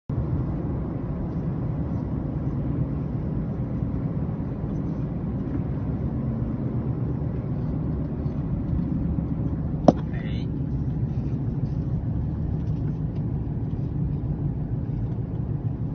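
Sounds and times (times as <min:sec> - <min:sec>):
vehicle driving on road: 0:00.1 - 0:15.9.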